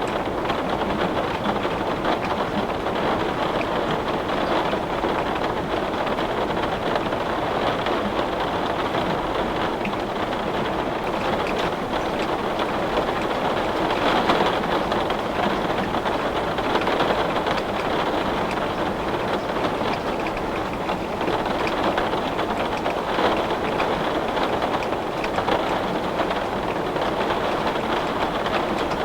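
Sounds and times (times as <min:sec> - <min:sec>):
heavy rain on a window: 0:00.0 - 0:29.0
raindrops ticking on glass: 0:00.0 - 0:29.0.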